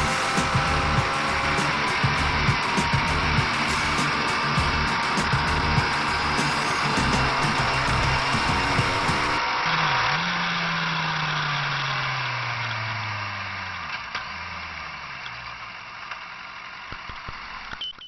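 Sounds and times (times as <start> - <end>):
motorcycle engine slowing: 0.0 - 15.9.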